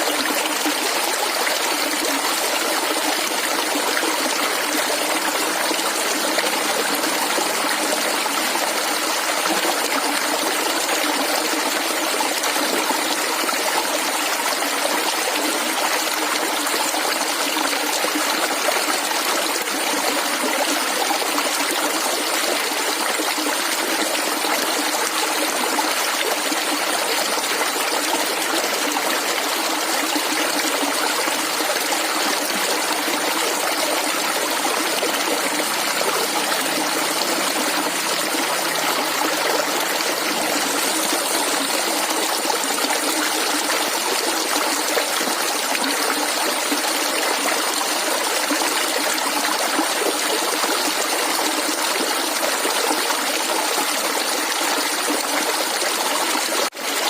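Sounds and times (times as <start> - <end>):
stream running and gurgling: 0.0 - 57.0.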